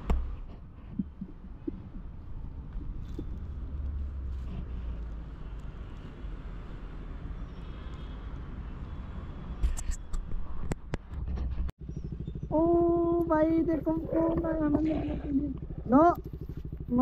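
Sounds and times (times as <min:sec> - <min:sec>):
low outdoor rumble: 0:00.0 - 0:09.2, 0:10.4 - 0:17.0.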